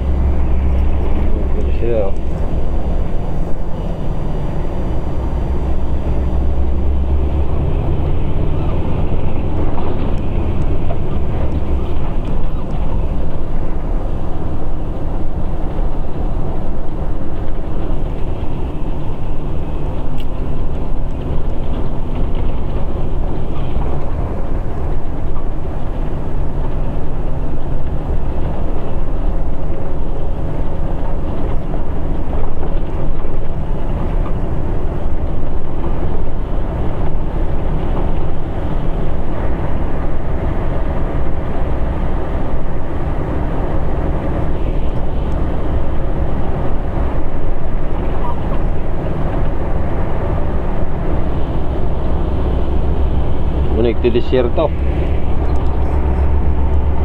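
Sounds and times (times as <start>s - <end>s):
vehicle engine and tyres rumbling: 0.0s - 57.0s.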